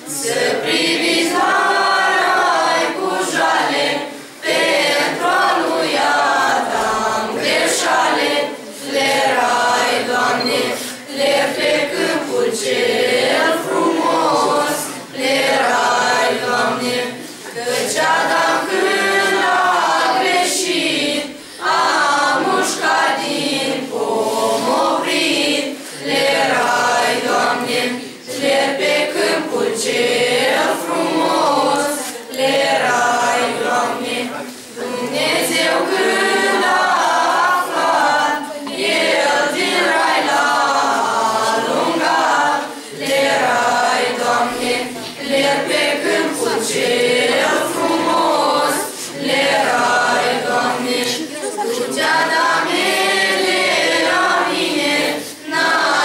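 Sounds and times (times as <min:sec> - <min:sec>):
group singing a carol: 0:00.0 - 0:56.0.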